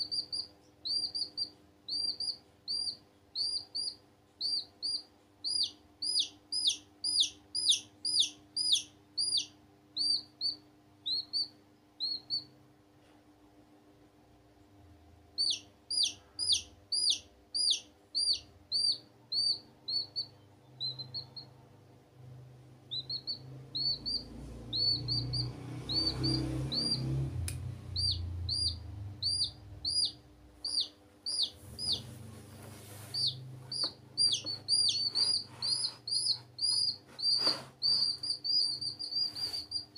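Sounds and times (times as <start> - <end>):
baby chicks peeping: 0.0 - 12.6, 15.3 - 39.9.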